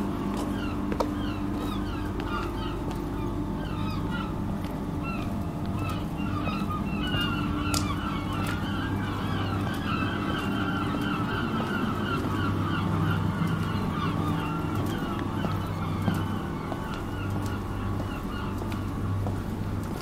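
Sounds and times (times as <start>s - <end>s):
birds honking calls: 0.0s - 20.0s
low steady hum: 0.0s - 20.0s.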